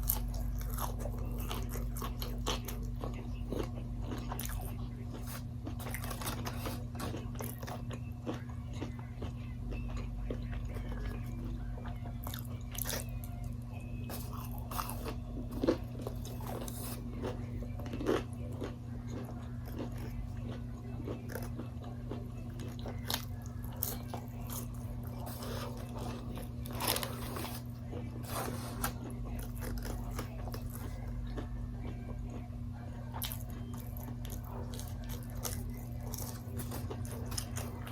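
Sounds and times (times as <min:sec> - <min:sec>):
person chewing crunchy food: 0:00.0 - 0:37.9.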